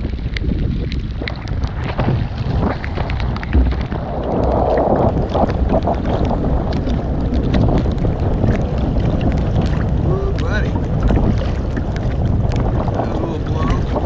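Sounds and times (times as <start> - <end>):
waves splashing against hull: 0.0 - 14.0
wind buffeting microphone: 0.0 - 14.0.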